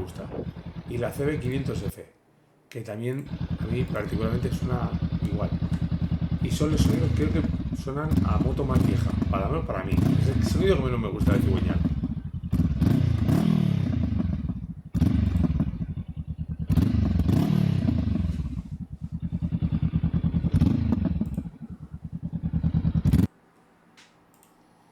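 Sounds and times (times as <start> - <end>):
motorcycle engine revving: 0.0 - 1.9, 3.2 - 23.3.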